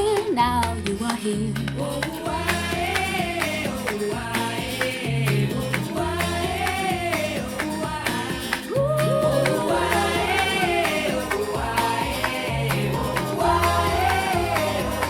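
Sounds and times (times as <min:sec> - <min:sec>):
pop song through speakers: 0:00.0 - 0:15.0.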